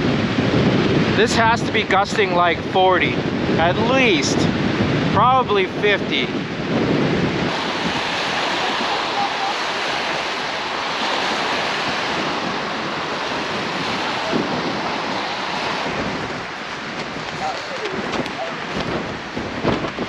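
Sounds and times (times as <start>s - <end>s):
strong gusting wind: 0.0s - 20.0s
waves washing: 0.0s - 20.0s
wind buffeting microphone: 0.0s - 20.0s.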